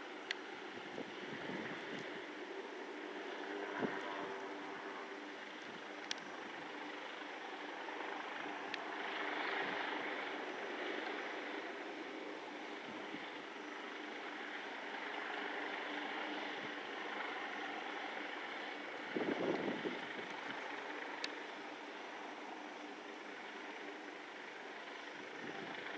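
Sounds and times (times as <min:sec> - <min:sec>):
faint steady tones: 0:00.0 - 0:25.9.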